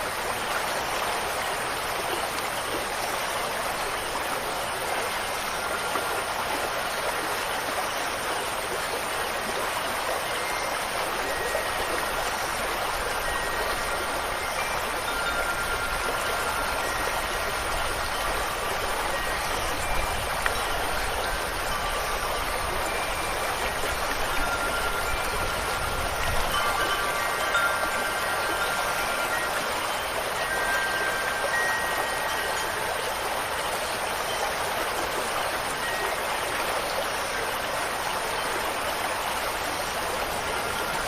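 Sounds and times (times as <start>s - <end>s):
faint wind chimes ringing: 0.0s - 41.0s
rushing water: 0.0s - 41.0s.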